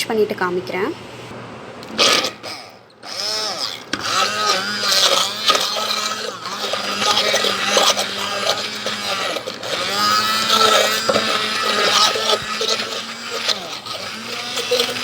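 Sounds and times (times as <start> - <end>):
electric hand blender running: 2.0 - 15.0.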